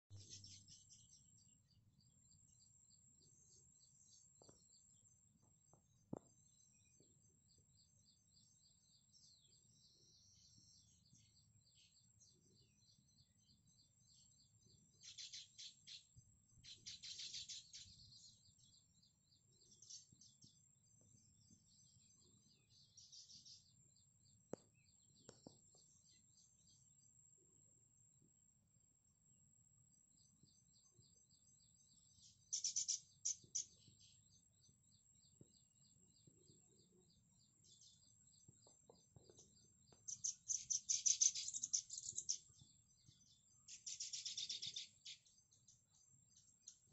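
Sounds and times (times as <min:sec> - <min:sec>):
birds chirping and chattering: 0:00.1 - 0:27.3, 0:29.9 - 0:46.9.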